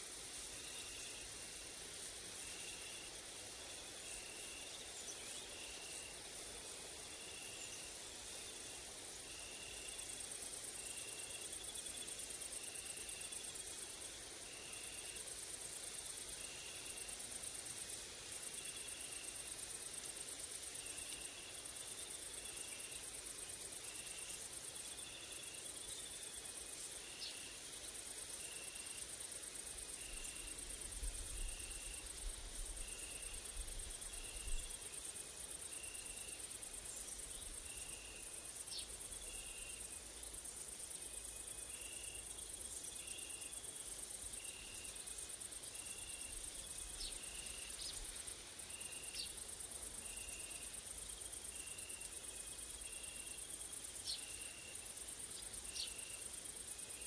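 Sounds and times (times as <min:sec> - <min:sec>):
insects buzzing: 0:00.0 - 0:57.0
short insect chirp: 0:00.0 - 0:57.0.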